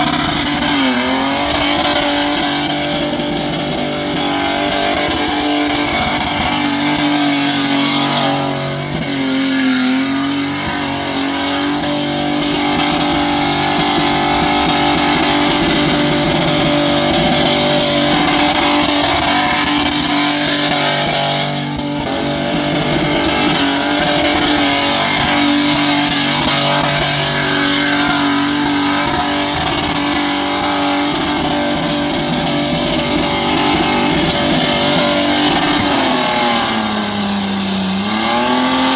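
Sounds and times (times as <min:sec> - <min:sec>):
car engine howling at high revs: 0:00.0 - 0:38.9
spinning tyres: 0:00.0 - 0:38.9.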